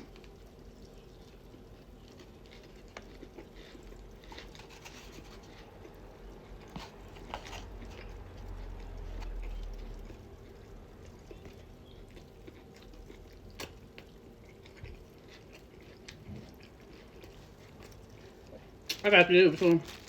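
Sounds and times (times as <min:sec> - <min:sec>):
close chewing: 0:00.0 - 0:20.0.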